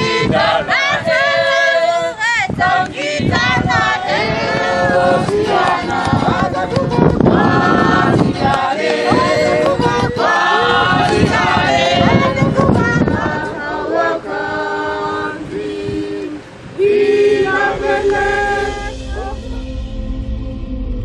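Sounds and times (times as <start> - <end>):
group singing in harmony: 0.0 - 21.0.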